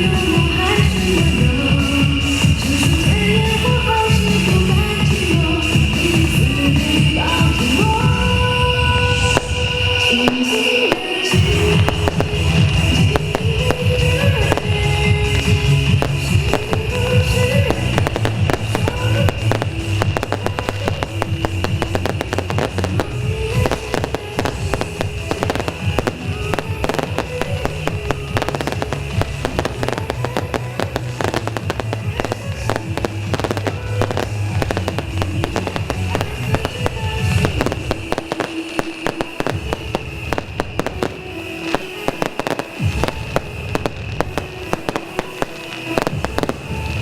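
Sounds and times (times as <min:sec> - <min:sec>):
music with deep bass: 0:00.0 - 0:10.5, 0:11.2 - 0:47.0
rockets and firecrackers crackling: 0:00.0 - 0:47.0.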